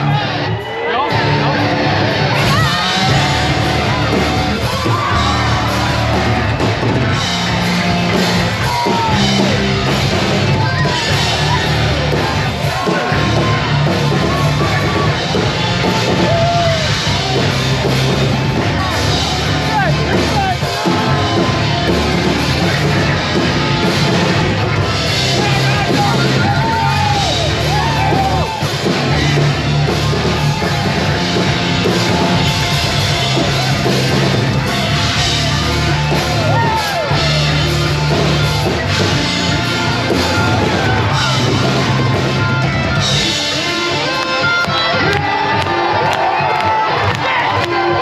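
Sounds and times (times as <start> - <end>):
yelled lead vocal: 0.0 - 44.1
distorted electric guitars: 0.0 - 48.0
drum kit: 0.0 - 48.0
live rock band playing: 0.0 - 48.0.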